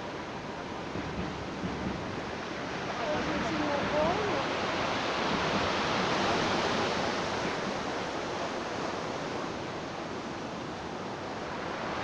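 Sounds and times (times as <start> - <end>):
storm waves breaking on shore: 0.0 - 12.0.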